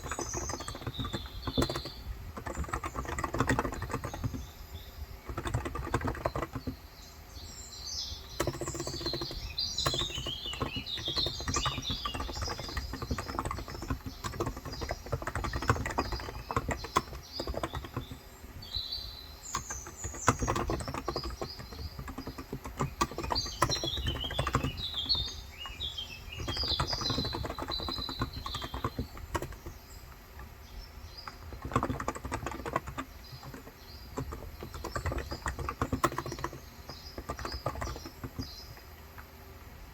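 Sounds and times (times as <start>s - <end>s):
soft keyboard typing: 0.0s - 7.0s, 8.2s - 18.9s, 19.5s - 39.4s
small birds chirping: 0.0s - 39.9s.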